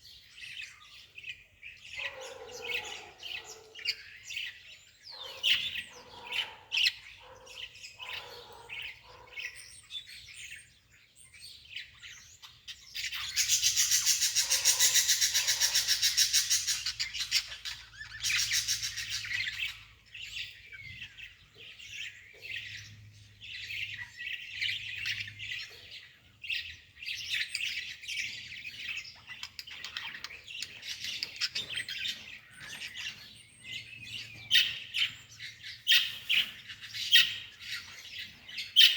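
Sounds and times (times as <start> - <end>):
songbird chirping and twittering: 0.0 - 38.9.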